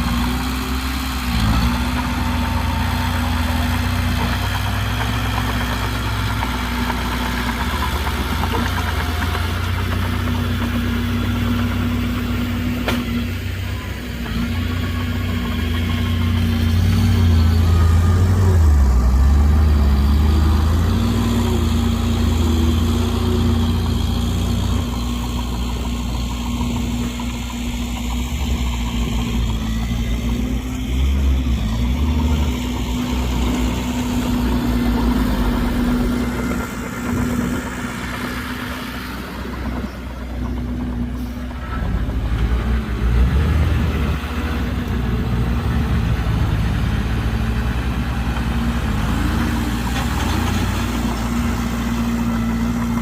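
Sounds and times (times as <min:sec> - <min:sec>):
heavy diesel engines running: 0:00.0 - 0:53.0.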